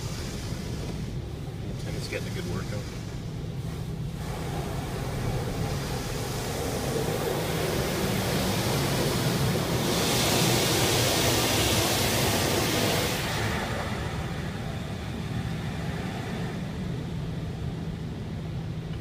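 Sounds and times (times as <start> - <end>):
water jets spraying car: 0.0 - 19.0.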